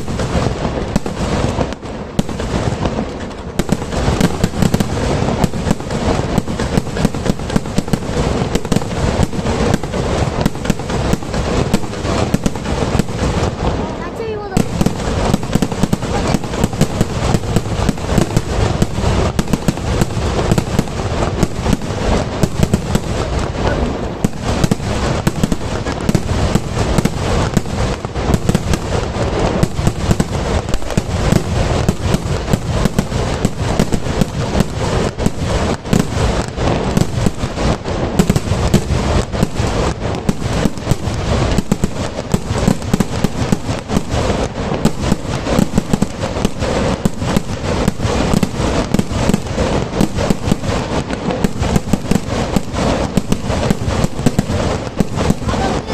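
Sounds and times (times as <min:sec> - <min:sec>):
rapid firecracker bangs: 0:00.0 - 0:55.9.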